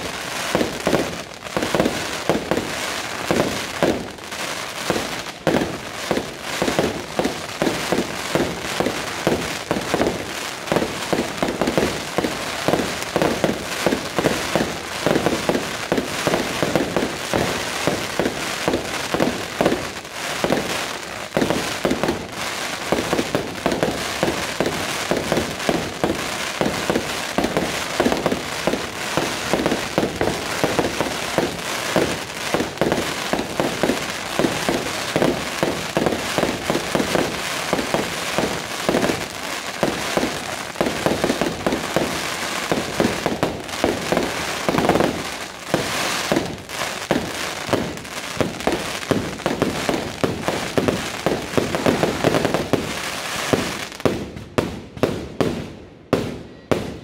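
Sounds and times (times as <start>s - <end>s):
fireworks bursts and crackle: 0.0s - 57.0s.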